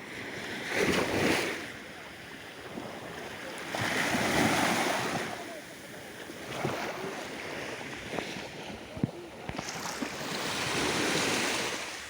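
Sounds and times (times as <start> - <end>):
small waves washing onto shore: 0.0 - 12.0.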